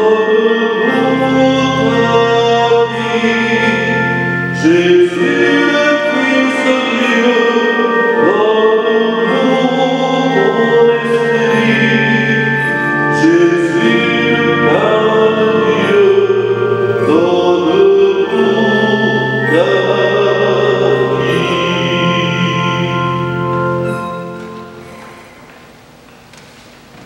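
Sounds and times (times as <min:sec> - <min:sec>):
person singing a hymn: 0:00.0 - 0:25.6
instrumental accompaniment: 0:00.0 - 0:27.0.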